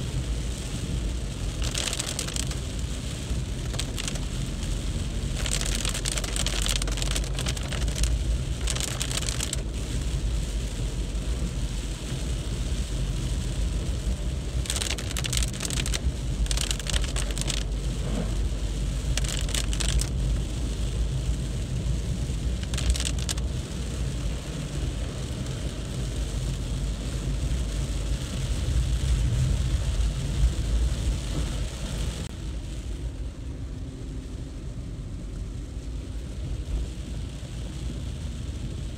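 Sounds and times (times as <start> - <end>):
heavy rain: 0.0 - 38.9
traffic rumble: 0.0 - 38.9
tyres hissing on wet road: 0.0 - 38.9.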